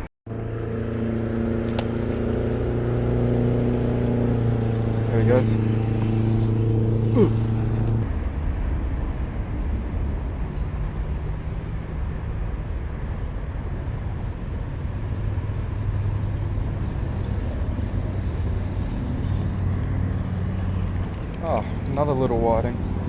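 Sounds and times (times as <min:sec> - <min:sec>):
background rumble: 0:00.0 - 0:23.0
motor engine running: 0:00.0 - 0:23.0.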